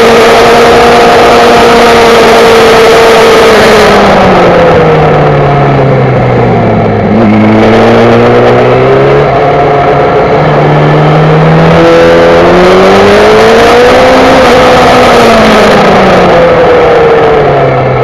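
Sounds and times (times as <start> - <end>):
loud rushing wind noise: 0.0 - 18.0
motorcycle engine accelerating: 0.0 - 18.0.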